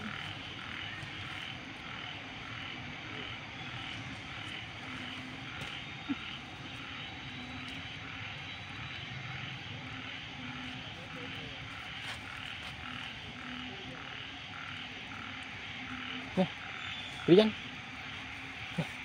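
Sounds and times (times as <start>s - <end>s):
frog chorus: 0.0s - 19.0s.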